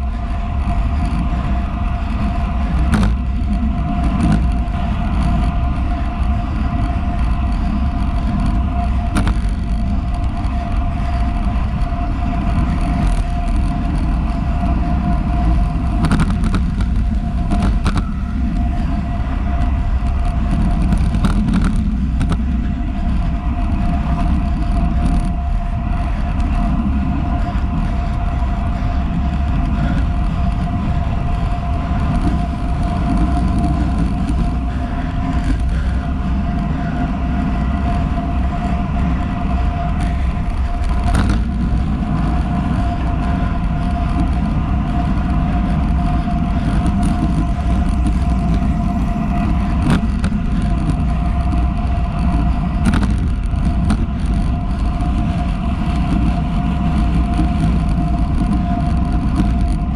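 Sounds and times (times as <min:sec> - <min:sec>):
road rumble and tyre noise: 0:00.0 - 0:59.9
thin steady whine: 0:00.0 - 0:59.9
wind: 0:00.0 - 0:59.9.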